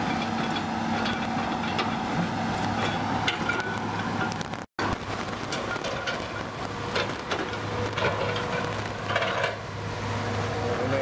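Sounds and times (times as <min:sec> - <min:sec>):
diesel engine hum: 0:00.0 - 0:11.0
faint engine whine: 0:00.0 - 0:11.0.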